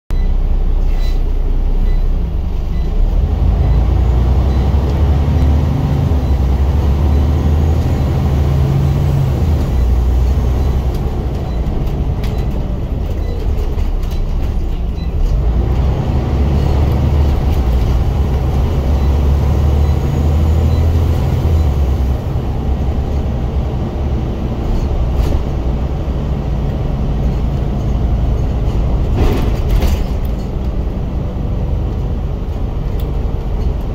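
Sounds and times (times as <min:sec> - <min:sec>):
bus diesel engine drone: 0:00.1 - 0:33.9.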